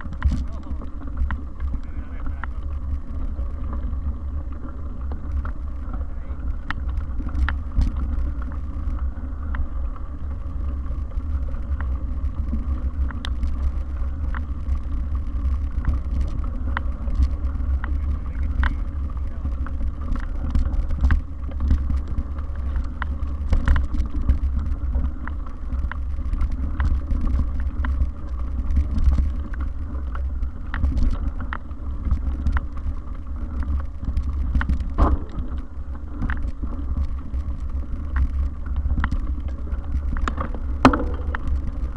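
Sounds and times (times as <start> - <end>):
bike rattling over bumps: 0.0 - 41.9
wind and vibration rumble on microphone: 0.0 - 41.9.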